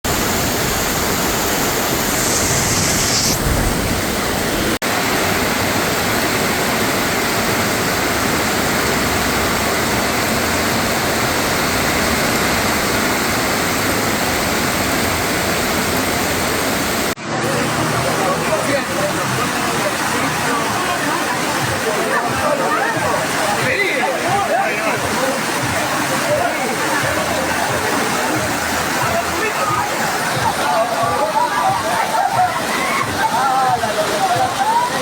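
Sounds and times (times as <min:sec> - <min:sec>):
heavy rain pouring: 0:00.0 - 0:35.0
running water: 0:00.0 - 0:35.0.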